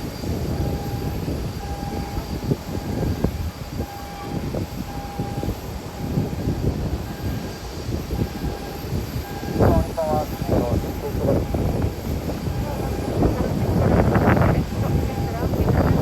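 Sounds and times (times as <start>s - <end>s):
faint aircraft engine: 0.0s - 16.0s
wind buffeting microphone: 0.0s - 16.0s.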